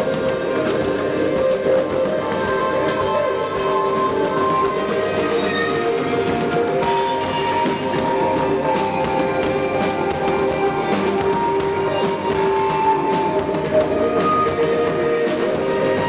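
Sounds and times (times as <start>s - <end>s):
light percussion: 0.0s - 16.0s.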